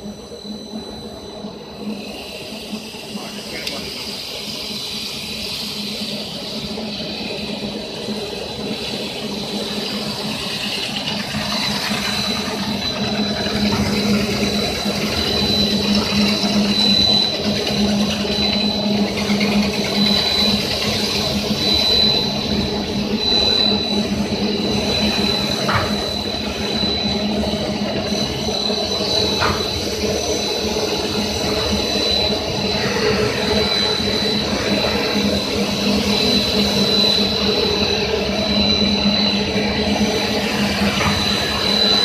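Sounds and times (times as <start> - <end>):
sanding machine humming and whining: 0.0 - 42.0.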